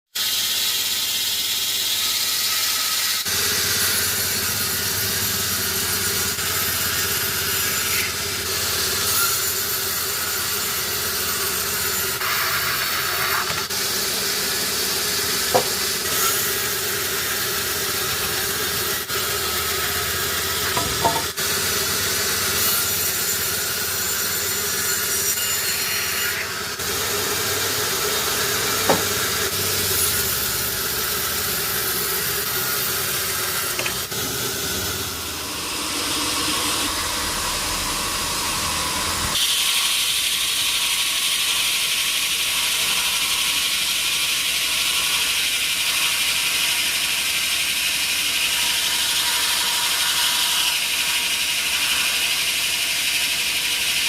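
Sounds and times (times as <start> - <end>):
saw cutting through log: 0.2 - 54.0.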